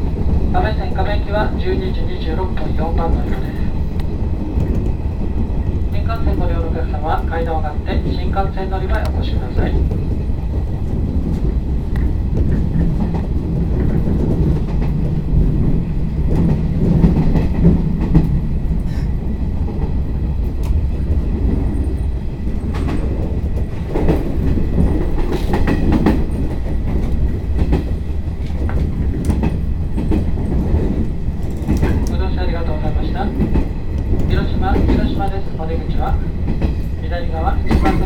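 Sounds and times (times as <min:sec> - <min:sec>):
train low rumble: 0:00.0 - 0:38.0.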